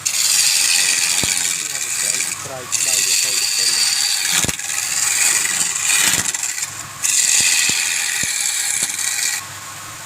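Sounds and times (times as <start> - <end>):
lathe tool scraping wood: 0.0 - 9.4.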